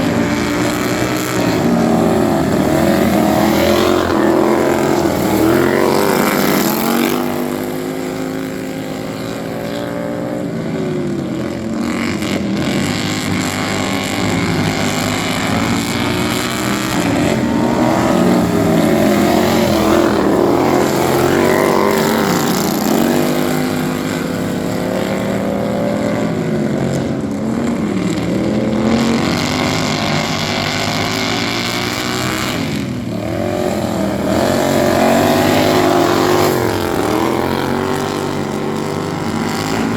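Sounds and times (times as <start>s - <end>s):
lawn mower engines revving: 0.0s - 39.9s.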